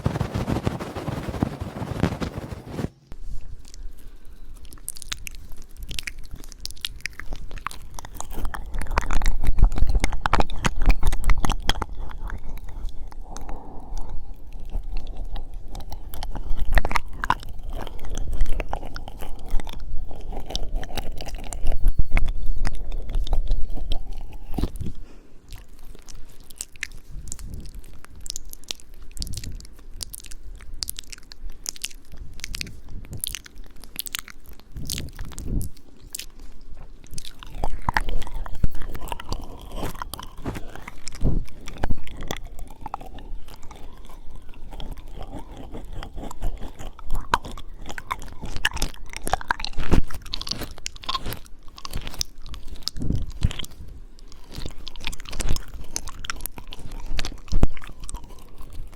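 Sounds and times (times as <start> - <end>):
wet mouth chewing noises: 0.0 - 58.9.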